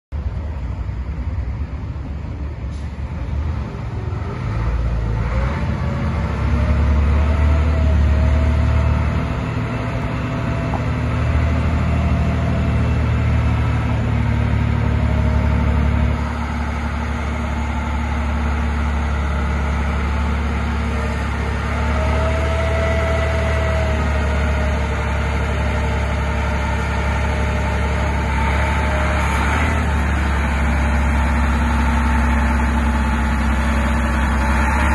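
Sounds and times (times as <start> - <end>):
forklift engine running: 0.2 - 34.9.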